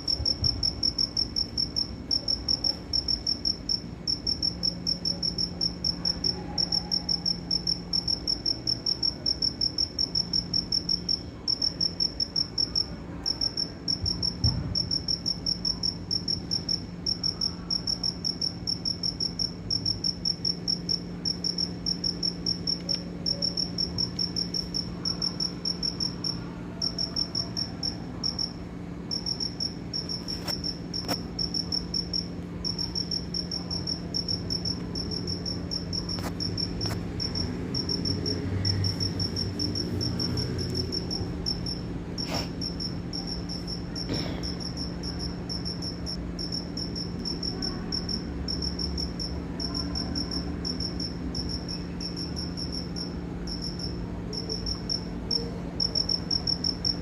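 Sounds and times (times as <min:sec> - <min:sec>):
cricket chirping: 0:00.0 - 0:57.0
steady low hum: 0:00.0 - 0:57.0.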